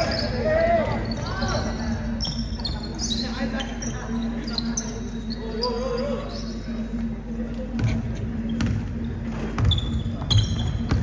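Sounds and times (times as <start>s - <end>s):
shoe squeaks: 0.0s - 7.0s, 8.4s - 11.0s.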